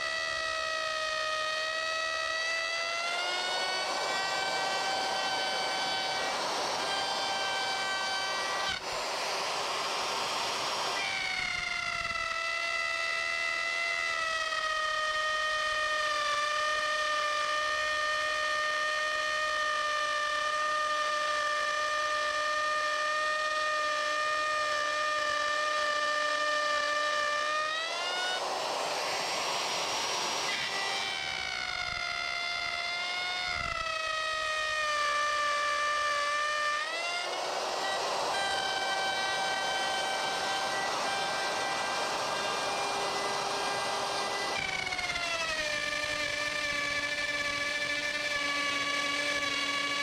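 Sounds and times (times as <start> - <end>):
electric router cutting: 0.0 - 50.0.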